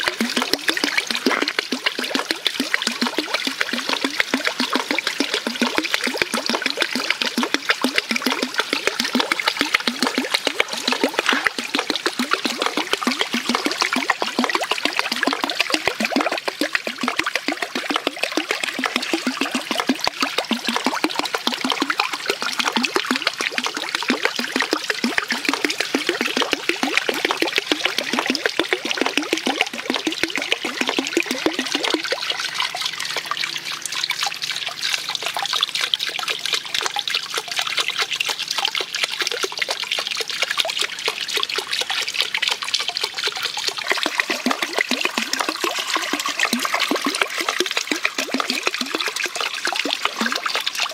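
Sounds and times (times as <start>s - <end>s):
water running and splashing: 0.0s - 50.9s.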